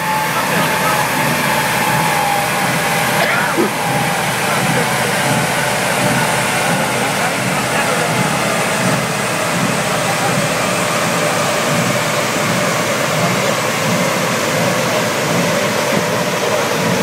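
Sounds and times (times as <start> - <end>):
large cooling fan blowing: 0.0 - 17.0.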